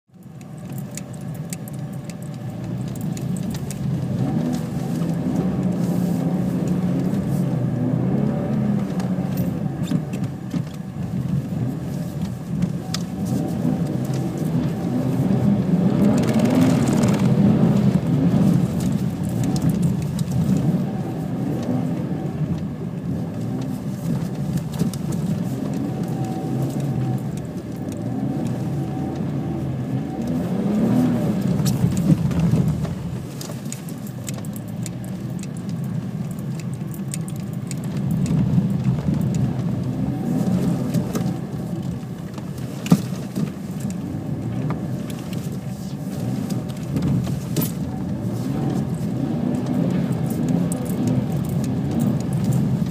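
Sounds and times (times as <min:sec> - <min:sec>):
car engine heard from inside: 0:00.1 - 0:52.9.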